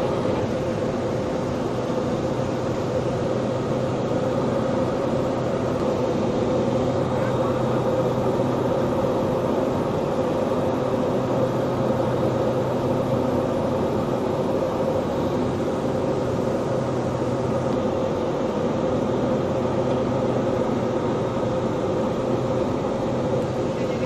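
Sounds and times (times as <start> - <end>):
plane engines droning in cabin: 0.0 - 24.0.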